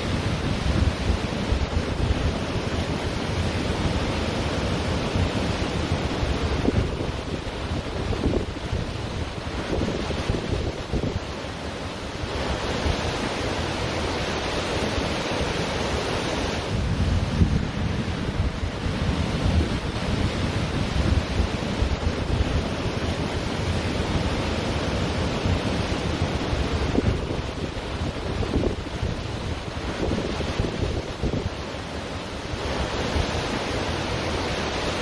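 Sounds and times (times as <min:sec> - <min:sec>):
ocean surf on a beach: 0:00.0 - 0:35.0
wind buffeting the microphone: 0:00.0 - 0:35.0.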